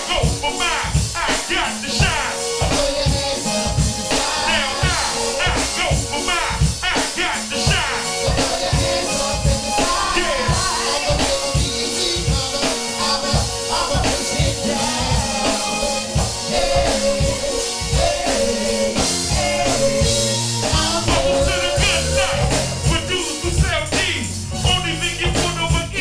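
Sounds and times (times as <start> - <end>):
drum beat: 0.0 - 26.0
person singing: 0.0 - 26.0.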